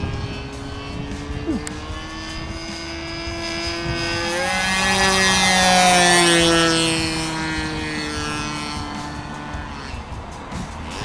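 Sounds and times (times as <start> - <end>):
model airplane engine flying past: 0.0 - 11.0.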